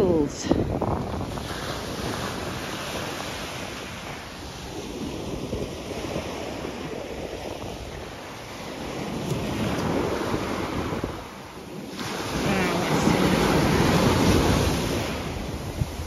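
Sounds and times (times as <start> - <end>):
surf breaking on sandy beach: 0.0 - 16.0
wind buffeting microphone: 0.0 - 16.0.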